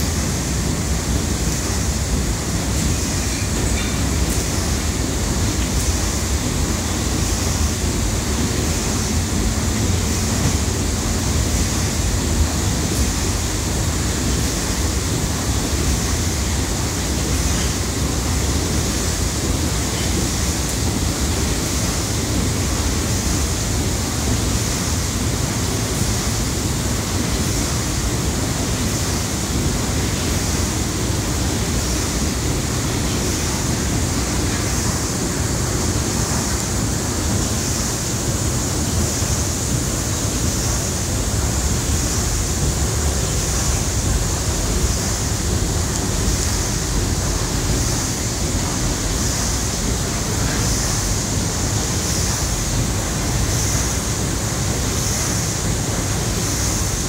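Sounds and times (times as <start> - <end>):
steam engine hissing and rumbling: 0.0 - 57.0.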